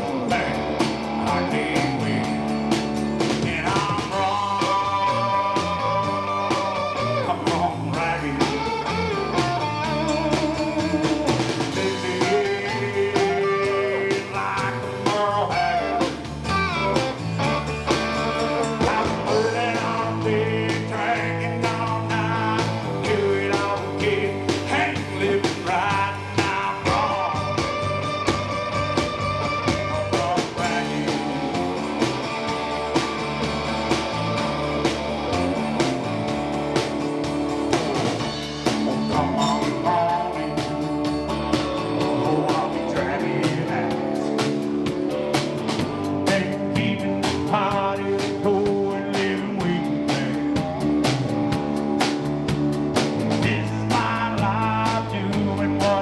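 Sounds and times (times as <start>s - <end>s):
electric guitar lines: 0.0s - 56.0s
live rock band playing: 0.0s - 56.0s.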